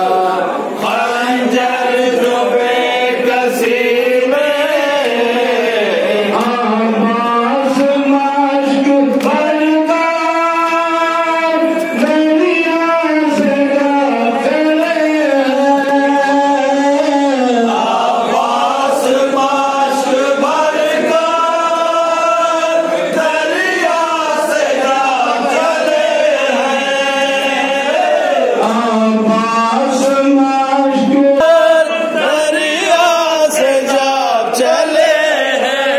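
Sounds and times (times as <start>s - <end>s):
men chanting a lament: 0.0s - 35.9s.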